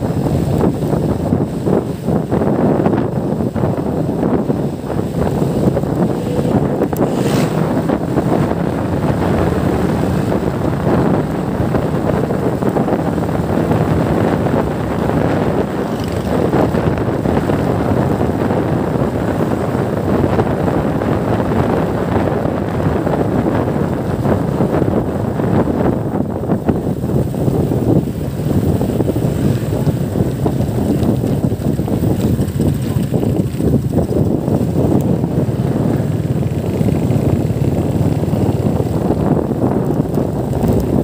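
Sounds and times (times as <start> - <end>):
motorcycle engine hum: 0.0 - 41.0
wind on microphone: 0.0 - 41.0.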